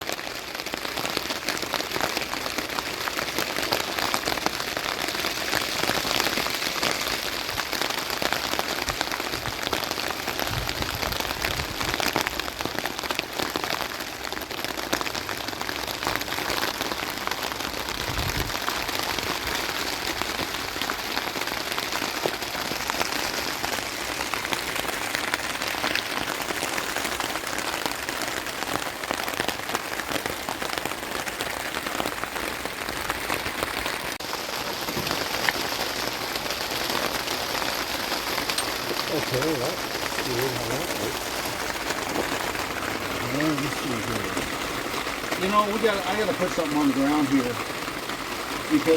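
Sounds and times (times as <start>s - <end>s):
rain pattering on a surface: 0.0s - 48.9s.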